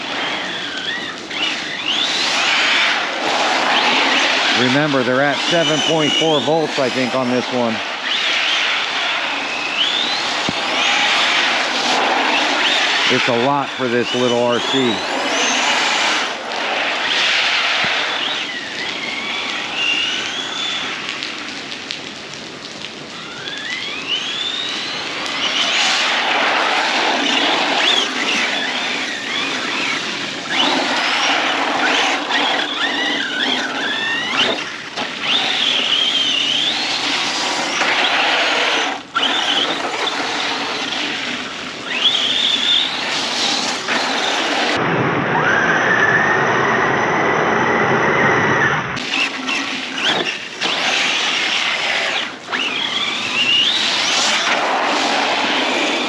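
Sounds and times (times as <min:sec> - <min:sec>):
electric motor whining: 0:00.0 - 0:21.1, 0:23.2 - 0:56.0
water hissing under tyres: 0:00.0 - 0:44.8, 0:49.0 - 0:56.0.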